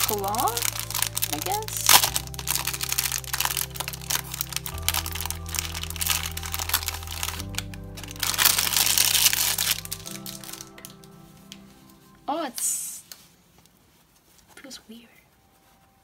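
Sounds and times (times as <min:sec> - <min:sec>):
music with slow sustained chords: 0:00.0 - 0:13.1
plastic wrapper crinkling: 0:00.0 - 0:14.5.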